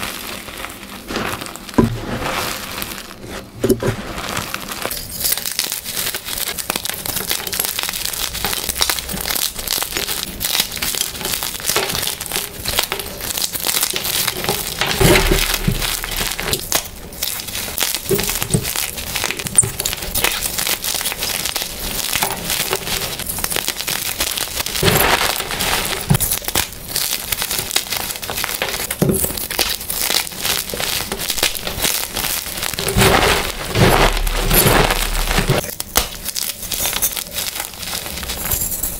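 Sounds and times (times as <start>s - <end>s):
chalk blocks crunching by hand: 0.0s - 38.7s.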